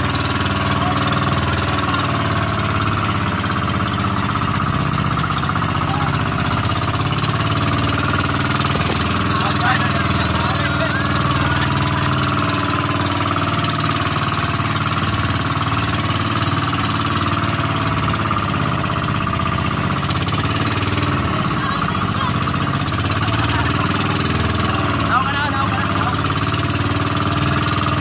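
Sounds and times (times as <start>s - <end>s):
boat engine running: 0.0s - 28.0s
water rushing along hull: 0.0s - 28.0s.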